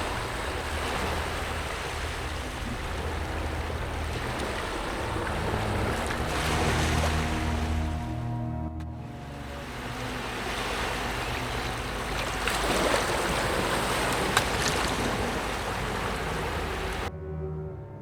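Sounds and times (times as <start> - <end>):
waves breaking on a beach: 0.0 - 8.0, 9.3 - 17.1.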